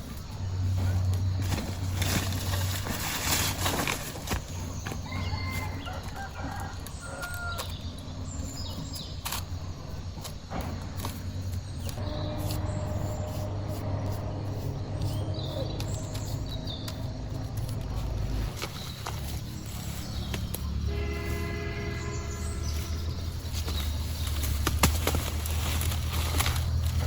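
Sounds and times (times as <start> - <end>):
steady low hum: 0.0 - 7.0, 7.7 - 27.0
birds calling: 0.0 - 27.0.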